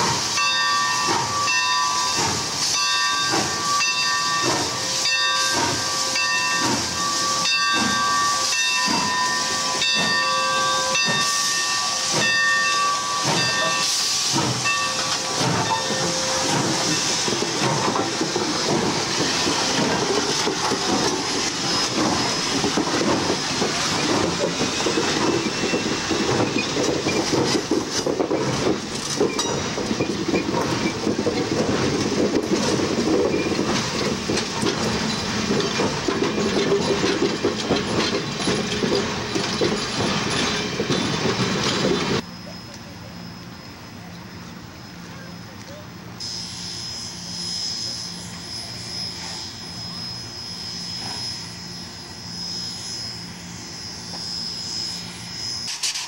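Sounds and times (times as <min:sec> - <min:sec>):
steam hissing: 0:00.0 - 0:43.0, 0:46.2 - 0:56.0
train wheels rumbling and rattling: 0:00.0 - 0:56.0.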